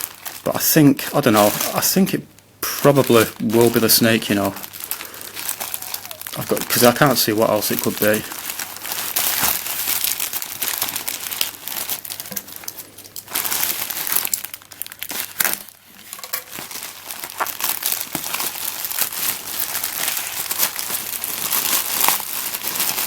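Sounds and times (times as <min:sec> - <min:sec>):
packaging crinkling: 0:00.0 - 0:23.0.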